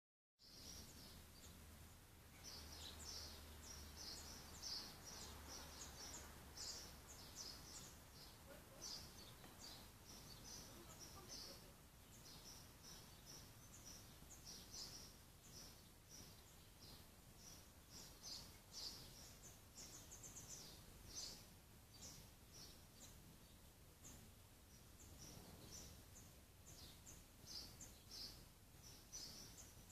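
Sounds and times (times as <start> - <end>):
small birds chirping: 0.4 - 29.9
soft background hiss: 0.4 - 29.9.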